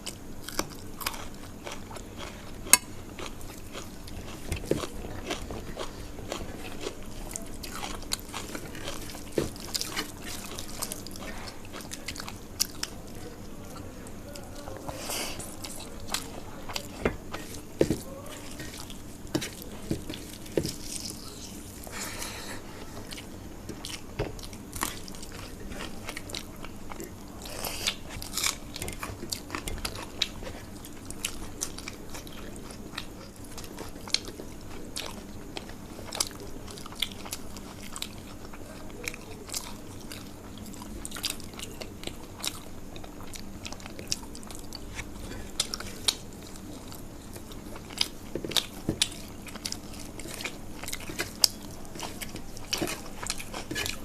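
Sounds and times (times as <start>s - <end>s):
crunchy chewing of fried food: 0.0s - 54.0s.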